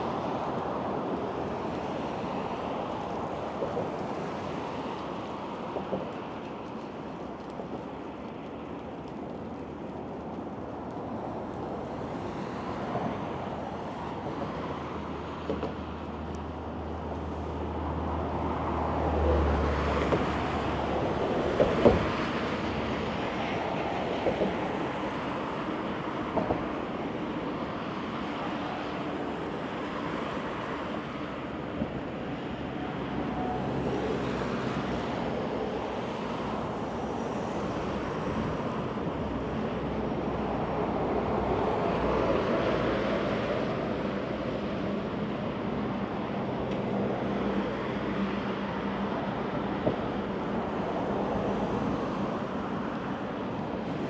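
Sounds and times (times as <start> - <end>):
city street traffic noise: 0.0 - 54.0.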